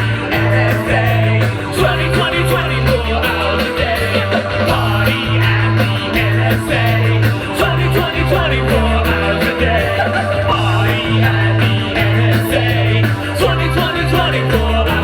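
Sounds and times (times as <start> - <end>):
bass line: 0.0 - 15.0
rock band playing: 0.0 - 15.0.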